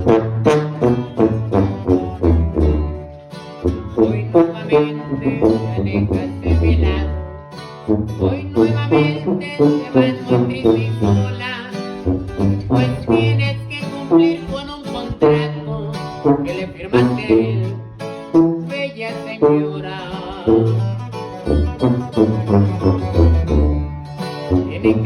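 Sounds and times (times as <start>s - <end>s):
plucked string music with beat: 0.0s - 19.4s, 20.0s - 25.0s.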